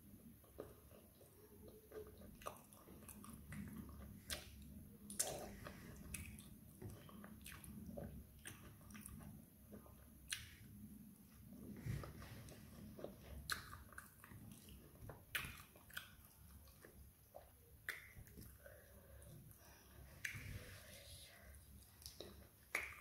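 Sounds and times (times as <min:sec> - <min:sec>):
person chewing and lip smacking: 0:00.4 - 0:10.8, 0:12.0 - 0:19.4, 0:20.1 - 0:20.6, 0:21.8 - 0:23.0.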